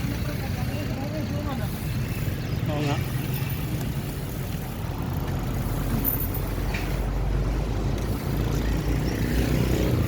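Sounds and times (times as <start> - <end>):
bicycle riding noise: 0.0 - 10.0
road traffic rumble: 0.0 - 10.0.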